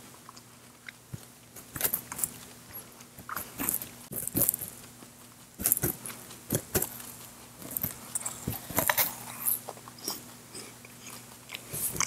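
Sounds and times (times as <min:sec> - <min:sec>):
rabbit crunching carrot: 0:00.0 - 0:12.0.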